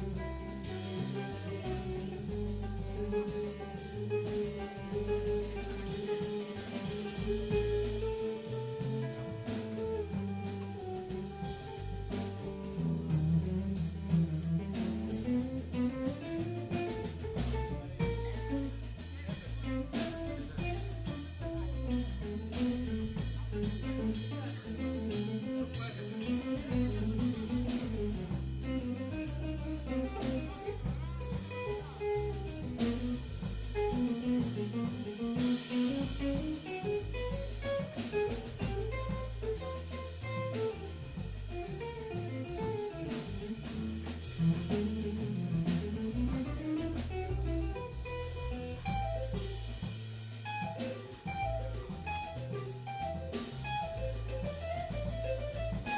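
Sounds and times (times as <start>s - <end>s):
bass guitar notes: 0.0s - 55.9s
drums and cymbals: 0.0s - 55.9s
guitar melody: 0.0s - 55.9s.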